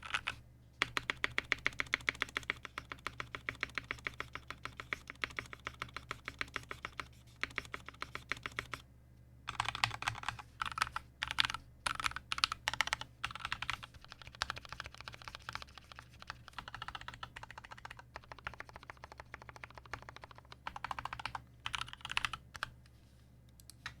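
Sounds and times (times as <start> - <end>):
mechanical keyboard typing: 0.0 - 8.8, 9.5 - 22.7.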